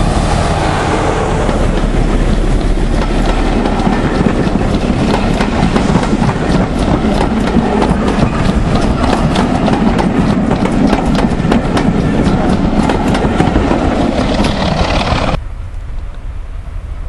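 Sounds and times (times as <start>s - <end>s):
rumble of train wheels on rails: 0.0s - 17.0s
wheels clicking on track: 1.4s - 15.4s.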